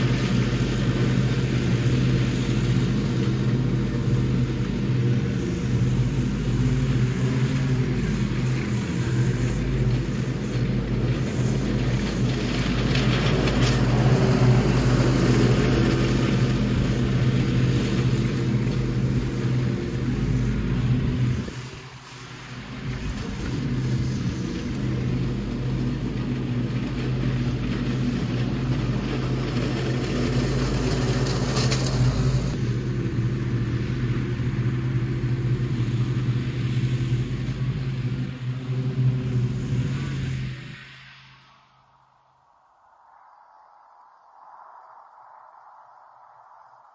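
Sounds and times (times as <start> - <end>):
small gasoline engine running: 0.0 - 41.3.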